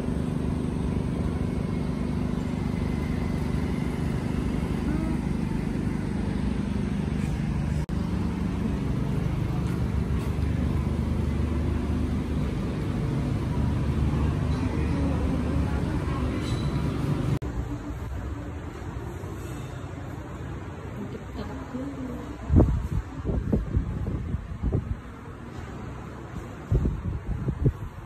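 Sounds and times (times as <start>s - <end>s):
vehicle engine and road noise: 0.0s - 28.0s.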